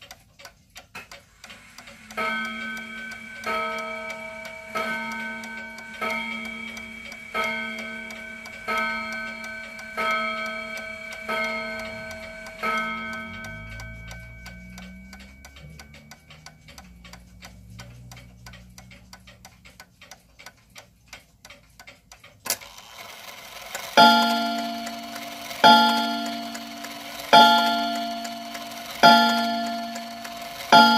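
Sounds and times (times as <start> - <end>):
clock ticking: 0.0 - 30.9
clock striking gong rods: 1.4 - 19.0, 22.7 - 30.9.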